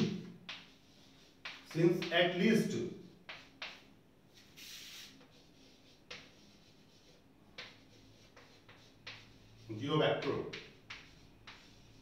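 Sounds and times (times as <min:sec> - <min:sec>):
chalk scratching on blackboard: 0:00.0 - 0:12.0
chalk tapping on blackboard: 0:00.0 - 0:12.0.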